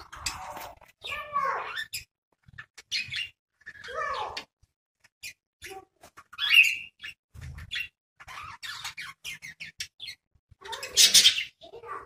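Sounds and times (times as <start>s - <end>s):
birds chirping and chattering: 0.0s - 12.0s.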